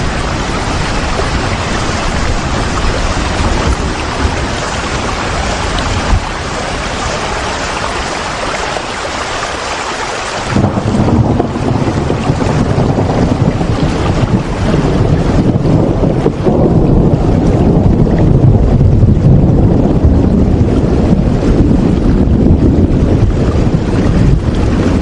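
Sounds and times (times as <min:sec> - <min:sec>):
loud rain: 0:00.0 - 0:25.0.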